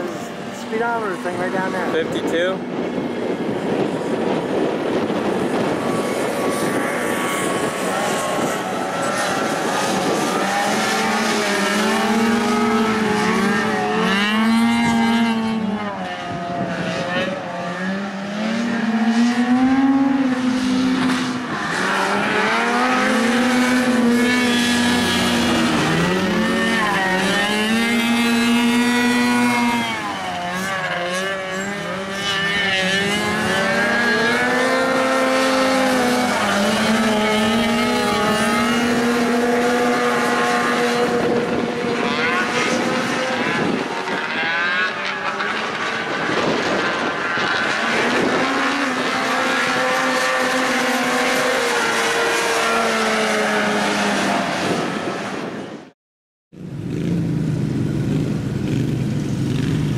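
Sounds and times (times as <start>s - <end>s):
atv engines revving: 0.0s - 55.4s, 56.6s - 59.9s.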